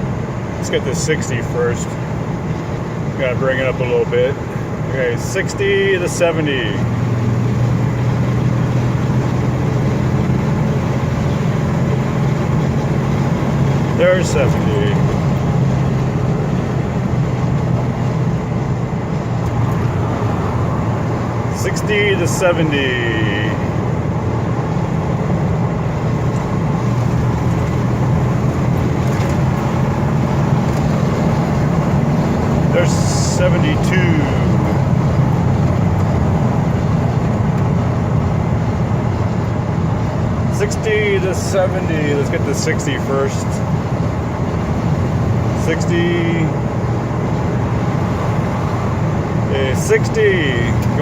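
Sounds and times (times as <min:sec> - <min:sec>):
road noise: 0:00.0 - 0:51.0
truck engine droning: 0:00.0 - 0:51.0.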